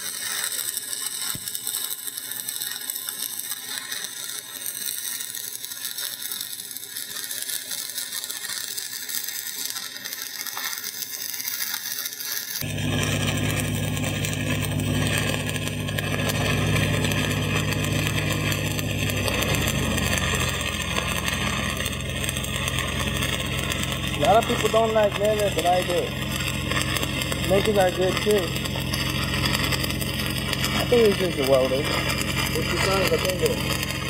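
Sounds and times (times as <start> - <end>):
welding arc crackling: 0.0 - 34.0
welding machine engine drone: 0.0 - 34.0.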